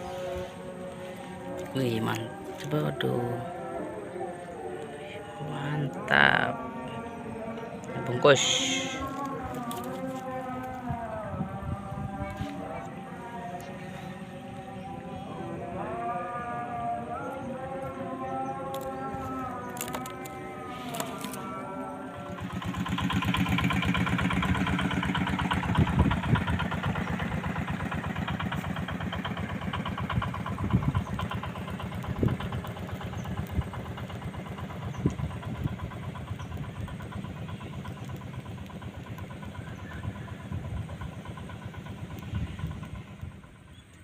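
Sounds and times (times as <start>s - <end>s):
small engine puttering: 0.0s - 44.0s.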